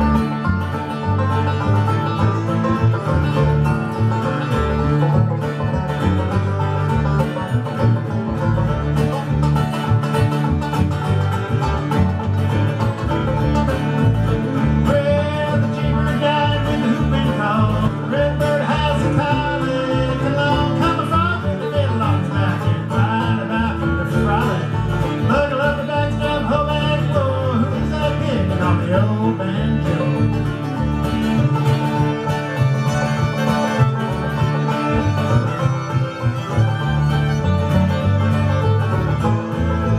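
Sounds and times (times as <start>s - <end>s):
banjo and guitar picking: 0.0s - 39.9s
fiddle melody: 0.0s - 39.9s.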